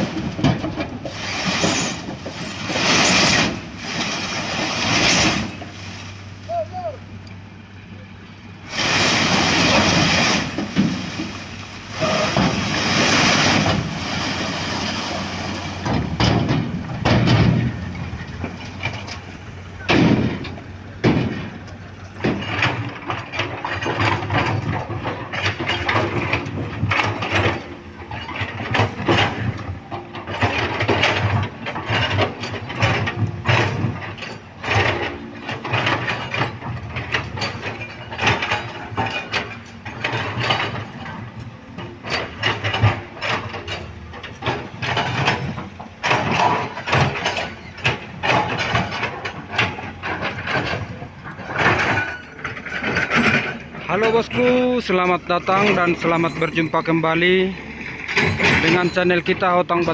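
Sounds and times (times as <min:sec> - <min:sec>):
metal clanks and knocks: 0:00.0 - 0:05.8, 0:08.9 - 0:59.9
diesel machinery running: 0:00.0 - 0:59.9.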